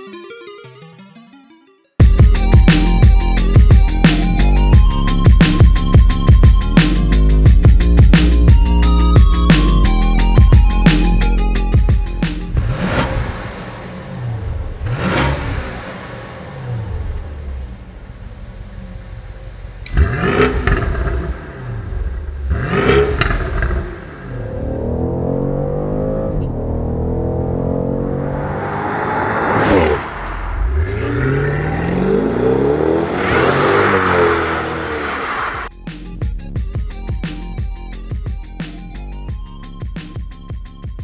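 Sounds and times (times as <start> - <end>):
car engine revving: 2.0 - 35.7.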